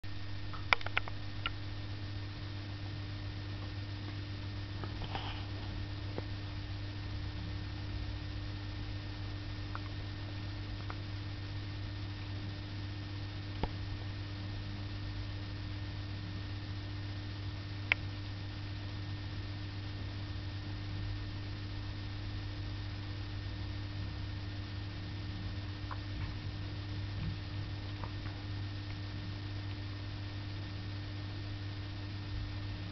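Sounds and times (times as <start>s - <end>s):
low electrical hum: 0.0s - 32.9s.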